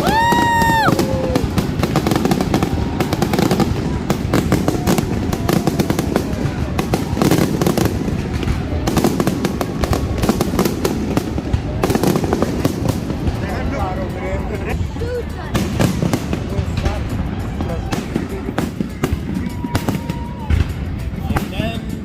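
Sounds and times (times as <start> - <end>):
crowd voices: 0.0 - 22.0
fireworks cracking and popping: 0.0 - 22.0.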